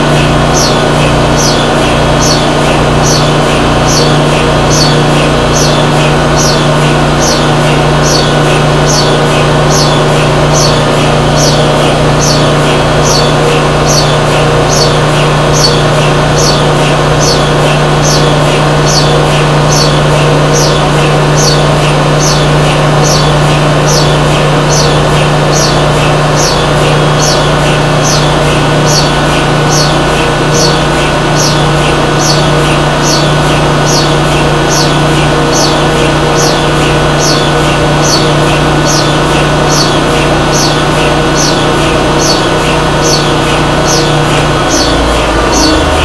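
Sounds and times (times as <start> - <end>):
machine motor humming: 0.0 - 46.0.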